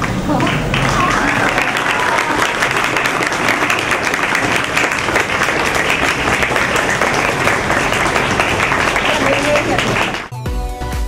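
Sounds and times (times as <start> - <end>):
crowd applauding: 0.0 - 10.3.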